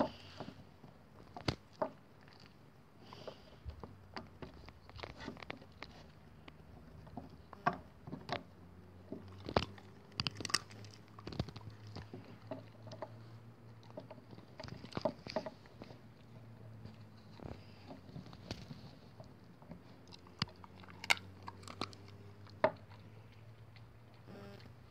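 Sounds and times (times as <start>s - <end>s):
dog chewing wooden stick: 0.0s - 24.9s.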